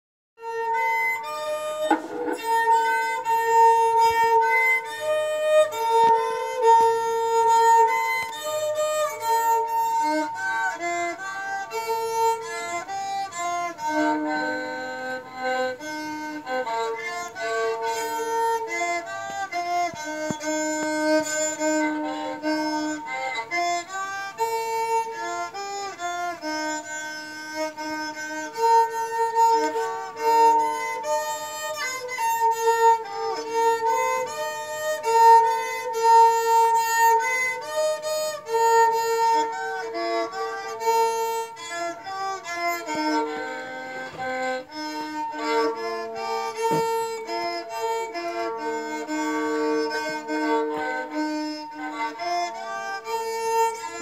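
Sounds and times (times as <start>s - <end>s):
bowed fiddle melody: 0.4s - 54.0s.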